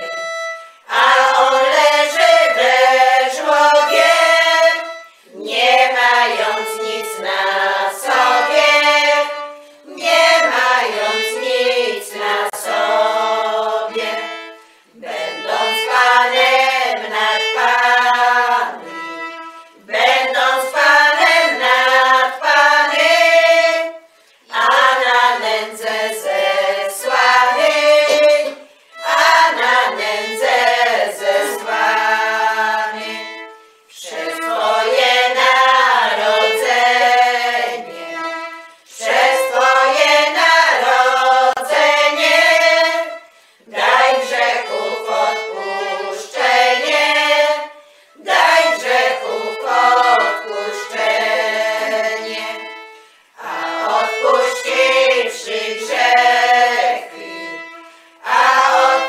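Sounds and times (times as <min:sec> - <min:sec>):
violin: 0:00.0 - 0:59.0
women singing folk carol: 0:00.0 - 0:59.0.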